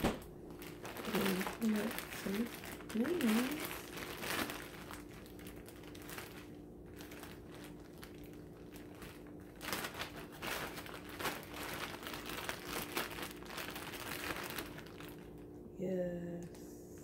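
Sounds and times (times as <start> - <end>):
plastic bag crinkling: 0.0 - 15.5
faint steady hum: 0.0 - 17.0.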